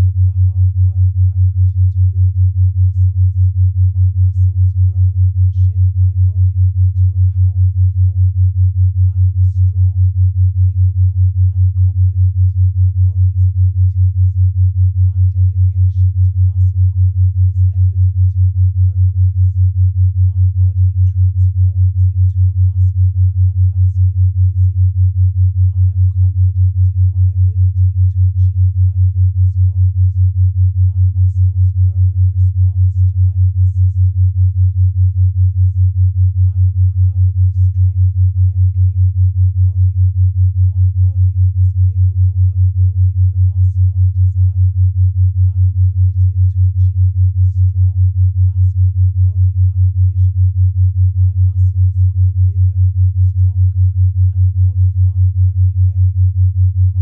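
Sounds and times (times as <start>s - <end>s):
very faint voice: 0.0s - 8.0s, 9.0s - 14.4s, 15.0s - 24.8s, 25.6s - 44.8s, 45.4s - 50.4s, 51.1s - 56.2s
low pulsing sine tone: 0.0s - 57.0s.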